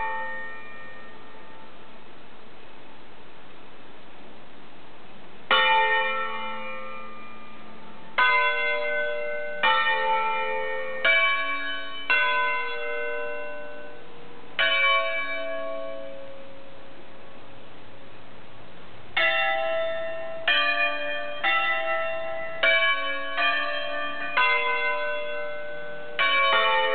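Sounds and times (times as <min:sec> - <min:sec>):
church bells ringing: 0:00.0 - 0:02.1, 0:05.5 - 0:17.7, 0:19.1 - 0:26.9.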